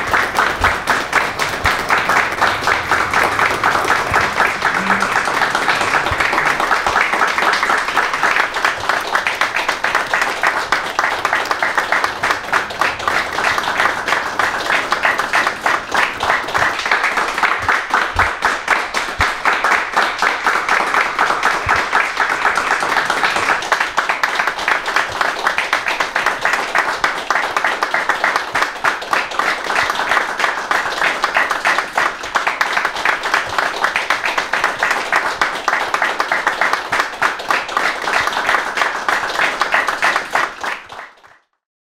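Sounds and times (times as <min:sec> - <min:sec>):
crowd applauding: 0:00.0 - 0:41.6.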